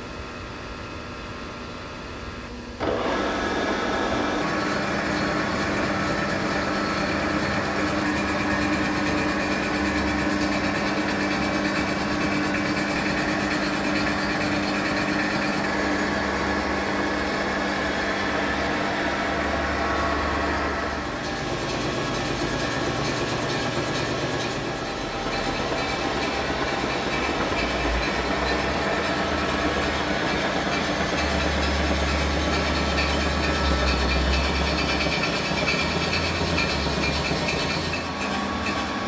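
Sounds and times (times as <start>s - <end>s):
milling cutter chattering on metal: 4.4s - 39.0s.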